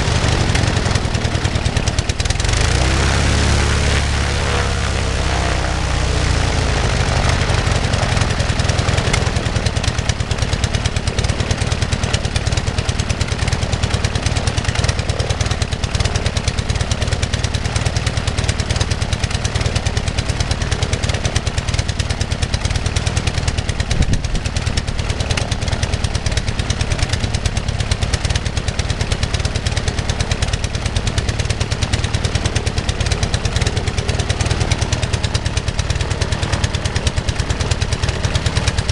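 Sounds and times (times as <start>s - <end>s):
aircraft engine running: 0.0s - 38.9s.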